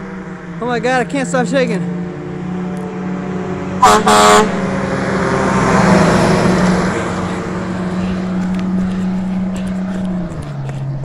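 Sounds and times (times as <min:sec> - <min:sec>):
fire engine humming: 0:00.0 - 0:11.0
rushing noise of truck passing: 0:00.0 - 0:11.0.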